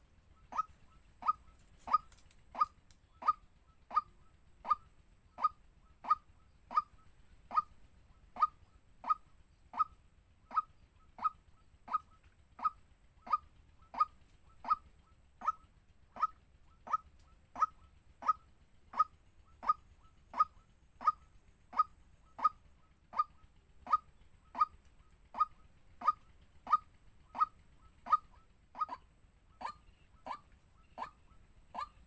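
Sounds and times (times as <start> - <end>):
bird calling sharp notes: 0.4 - 32.0.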